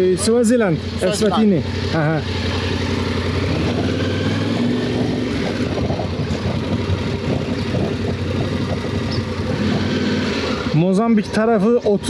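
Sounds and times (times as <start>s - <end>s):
motorcycle engine humming: 0.0s - 12.0s.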